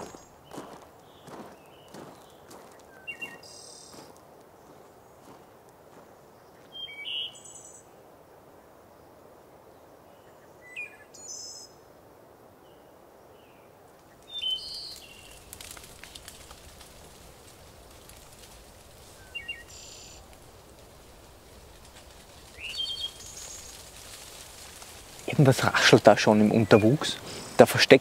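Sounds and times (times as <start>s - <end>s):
birds chirping: 0.0s - 7.9s, 13.4s - 28.0s
faint outdoor hiss: 0.0s - 28.0s.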